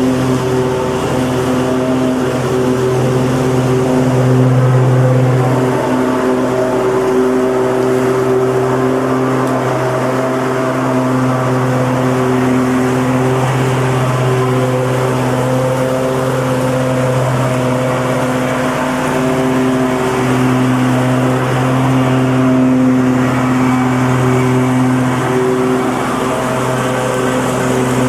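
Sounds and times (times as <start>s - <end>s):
lawn mower engine running: 0.0s - 28.0s.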